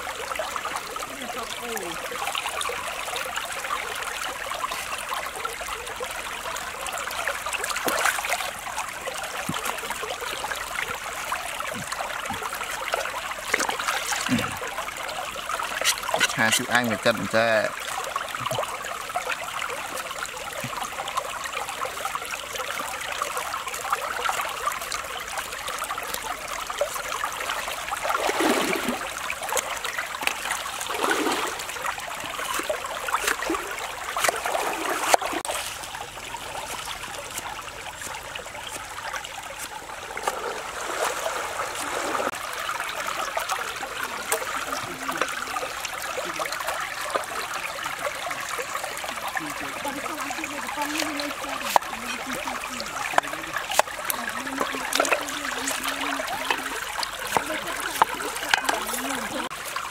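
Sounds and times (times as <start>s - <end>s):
stream water trickling and gurgling: 0.0s - 59.9s.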